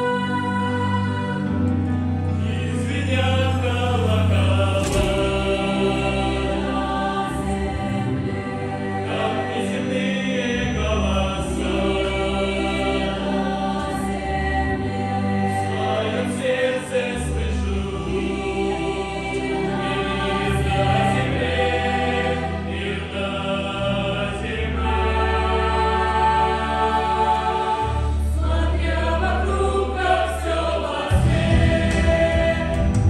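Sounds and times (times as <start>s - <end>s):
mixed choir singing carol: 0.0s - 33.0s.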